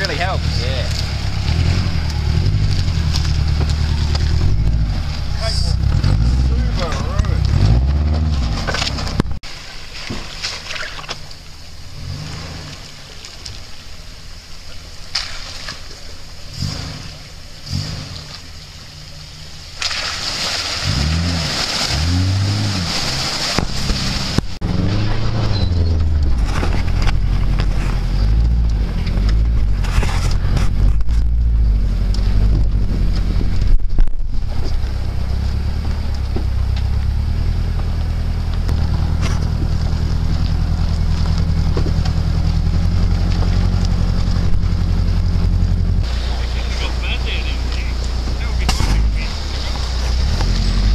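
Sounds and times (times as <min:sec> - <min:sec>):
car engine revving: 0:00.0 - 0:09.4, 0:11.2 - 0:19.8, 0:20.8 - 0:50.9
car engine drone: 0:00.0 - 0:50.9.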